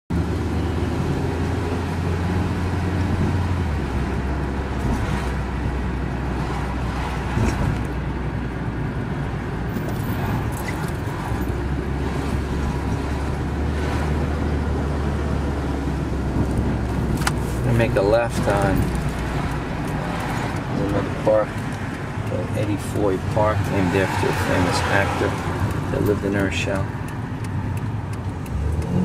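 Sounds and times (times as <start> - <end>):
car road and engine rumble: 0.1 - 29.0.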